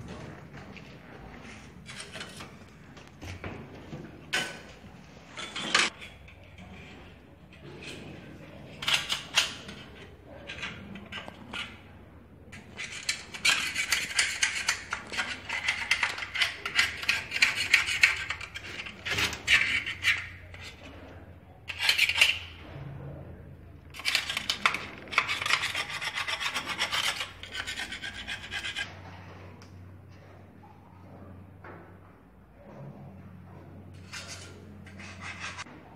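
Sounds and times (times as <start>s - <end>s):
hand rubbing and scraping metal: 0.0s - 23.1s, 23.8s - 29.4s, 32.6s - 35.9s.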